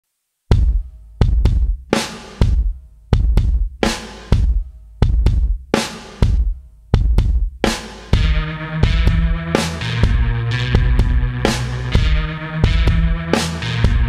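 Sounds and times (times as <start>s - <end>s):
bass drum and snare beat: 0.5s - 14.0s.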